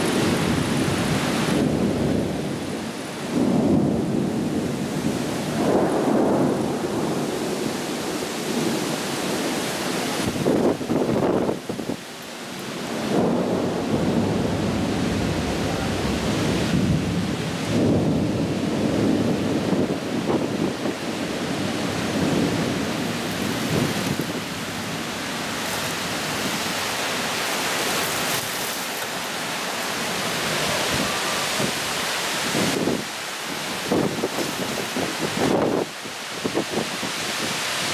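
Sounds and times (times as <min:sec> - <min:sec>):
thunder rumbling: 0:00.0 - 0:12.0, 0:12.8 - 0:28.5, 0:29.4 - 0:37.5
heavy rain hissing: 0:00.0 - 0:37.9.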